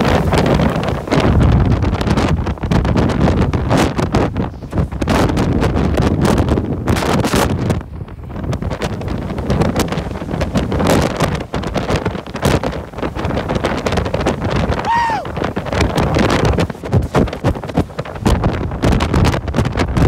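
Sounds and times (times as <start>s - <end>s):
strong wind blasting microphone: 0.0s - 20.0s.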